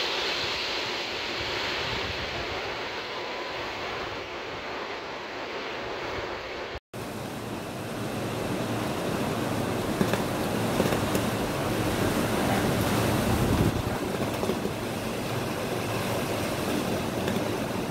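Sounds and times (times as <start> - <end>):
wind gusting through window: 0.0 - 17.9.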